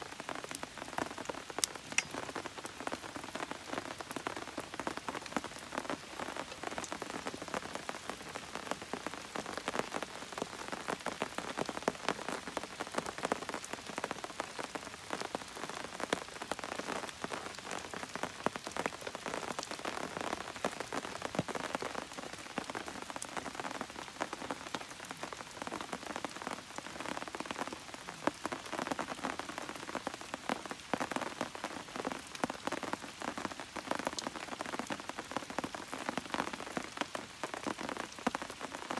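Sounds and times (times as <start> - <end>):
rain drops ticking: 0.0 - 38.9.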